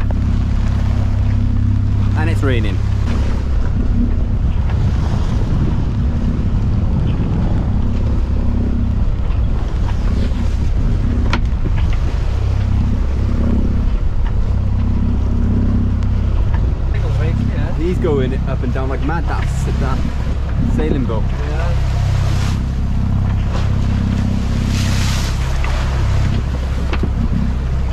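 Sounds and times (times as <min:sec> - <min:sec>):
waves against boat hull: 0:00.0 - 0:27.9
wind buffeting microphone: 0:00.0 - 0:27.9.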